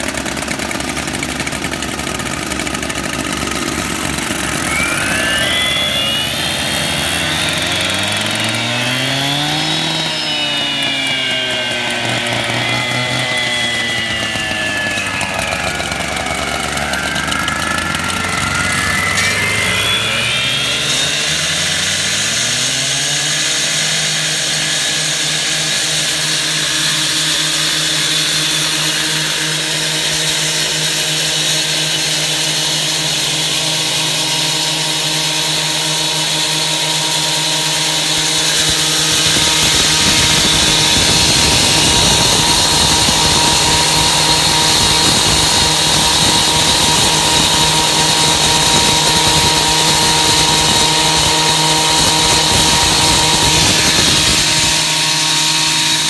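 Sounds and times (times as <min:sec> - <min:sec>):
concrete saws revving: 0:00.0 - 0:56.0
saw blades cutting concrete: 0:00.0 - 0:56.0.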